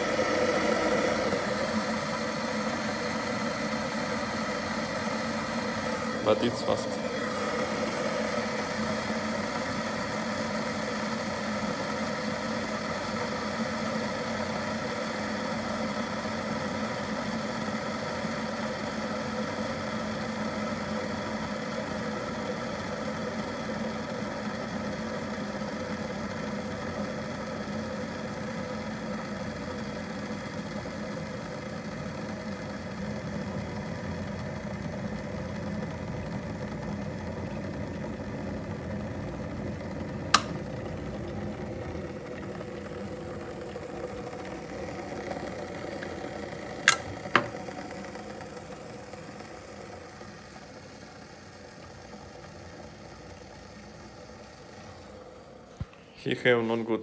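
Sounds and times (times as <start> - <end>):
electric kettle hissing: 0.0 - 57.0.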